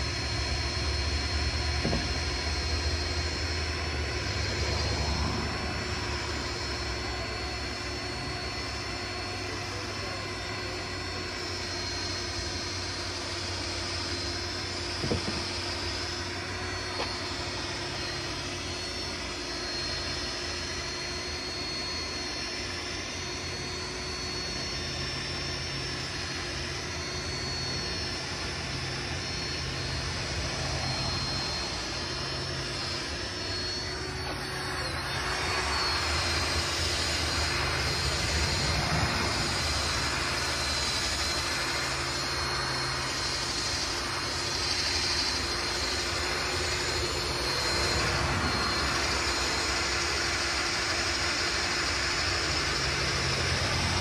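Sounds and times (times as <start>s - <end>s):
drill motor whining: 0.0s - 54.0s.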